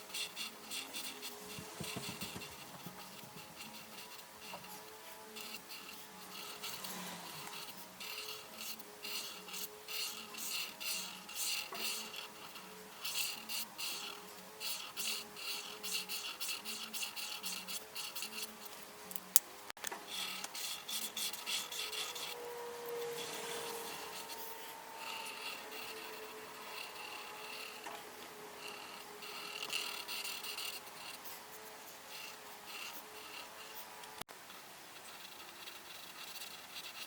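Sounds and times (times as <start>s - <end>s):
coloring tool scribbling on paper: 0.0s - 18.8s, 20.0s - 37.0s.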